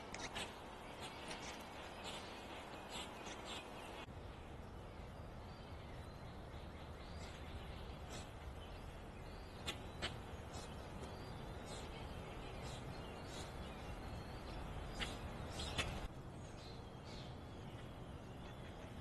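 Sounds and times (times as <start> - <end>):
birds chirping: 0.0 - 19.0
low background noise: 0.0 - 19.0.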